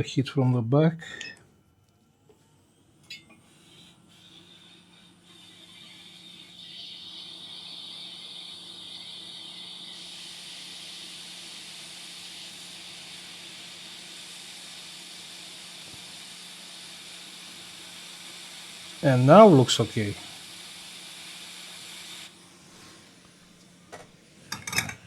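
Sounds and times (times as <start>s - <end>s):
hot air hissing: 3.4s - 25.0s.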